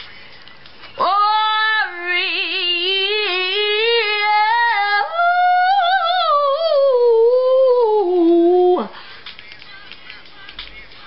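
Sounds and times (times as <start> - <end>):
woman singing wordless notes: 1.0 - 11.0.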